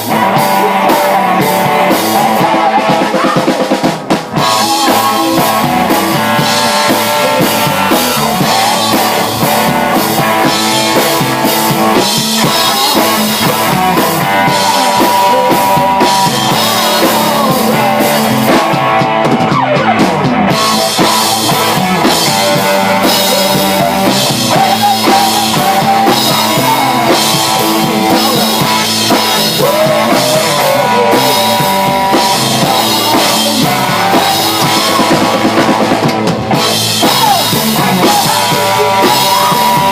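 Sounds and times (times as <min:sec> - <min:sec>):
drum kit: 0:00.0 - 0:39.9
guitar playing loudly: 0:00.0 - 0:39.9.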